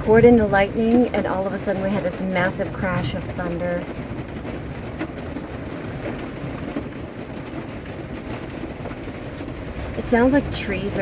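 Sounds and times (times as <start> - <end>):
low rumble of thunder: 0.0 - 11.0
rain on a vehicle roof: 0.0 - 11.0.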